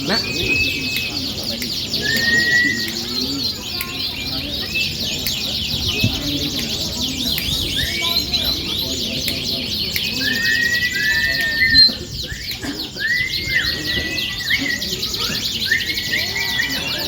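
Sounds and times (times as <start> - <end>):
canaries singing: 0.0 - 17.0.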